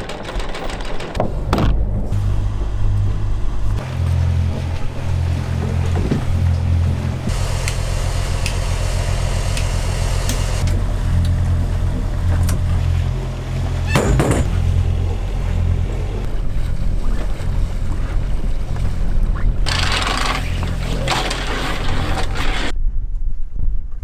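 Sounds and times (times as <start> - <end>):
wind: 0.0 - 24.0
diesel engine humming: 1.2 - 22.7.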